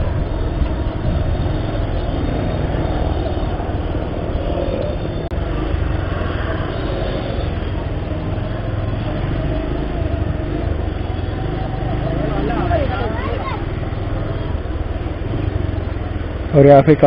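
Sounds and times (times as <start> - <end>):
motorcycle engine running: 0.0 - 17.0
street traffic: 0.0 - 17.0.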